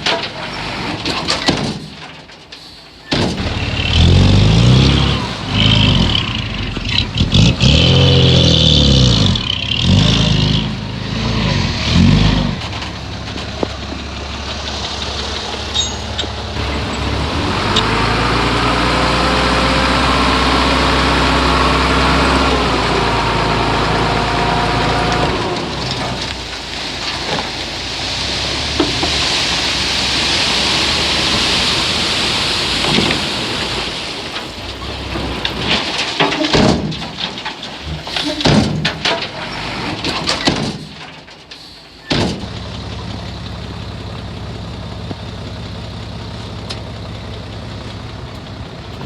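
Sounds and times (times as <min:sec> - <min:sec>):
heavy diesel engine under load: 0:00.0 - 0:49.0.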